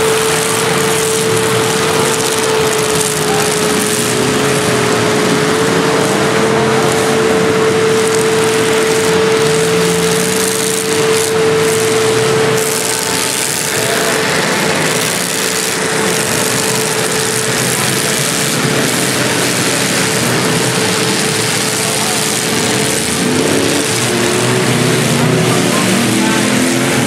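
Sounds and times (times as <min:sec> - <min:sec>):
car engines revving: 0:00.0 - 0:27.0
steady tone: 0:00.0 - 0:27.0.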